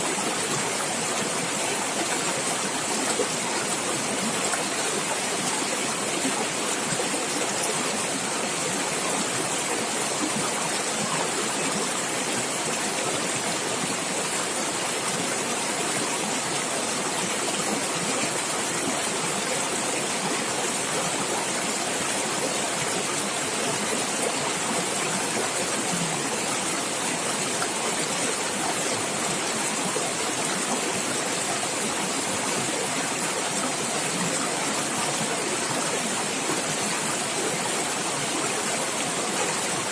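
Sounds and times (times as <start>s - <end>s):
stream rushing and gurgling: 0.0s - 39.9s.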